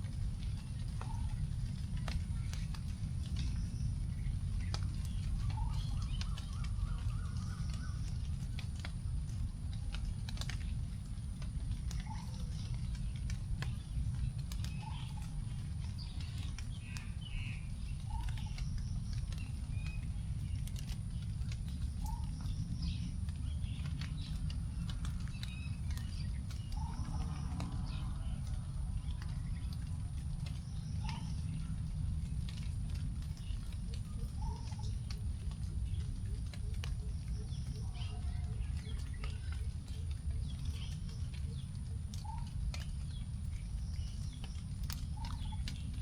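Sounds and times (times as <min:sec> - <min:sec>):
low rumble: 0:00.0 - 0:37.8
raindrops dripping onto leaves: 0:00.0 - 0:46.0.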